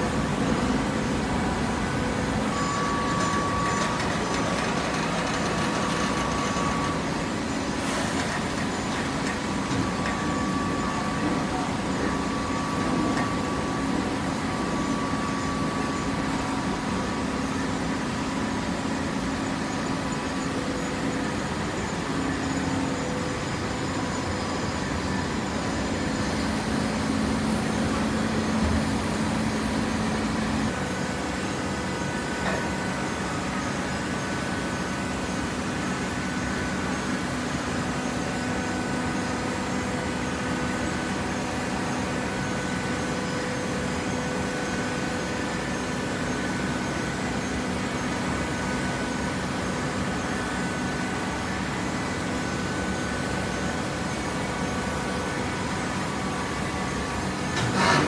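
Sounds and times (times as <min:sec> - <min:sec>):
baler machine drone: 0:00.0 - 0:58.0.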